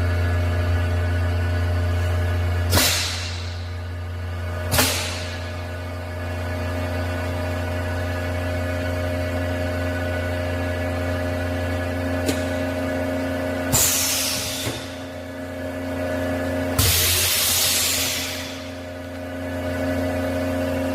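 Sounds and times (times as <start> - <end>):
packaging machine humming: 0.2 - 20.9.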